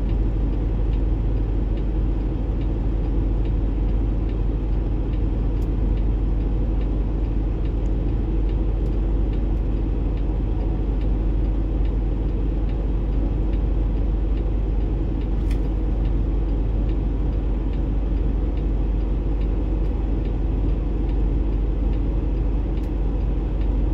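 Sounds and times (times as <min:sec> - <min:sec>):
truck engine and road rumble: 0:00.0 - 0:23.9.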